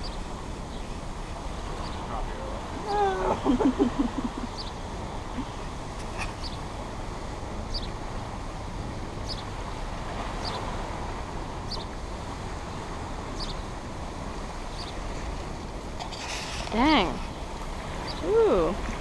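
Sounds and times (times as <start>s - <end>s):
water rushing from spillway: 0.0s - 19.0s.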